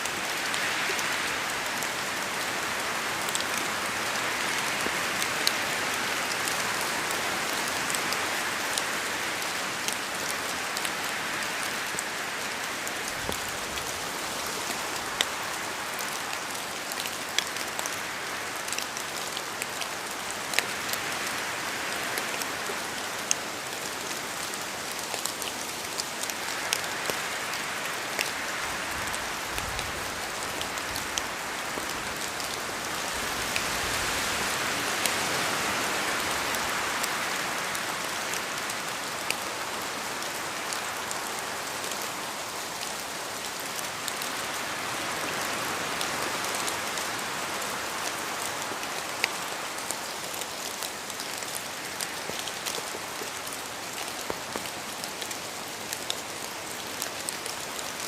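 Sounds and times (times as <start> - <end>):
steady rain in forest: 0.0 - 58.0.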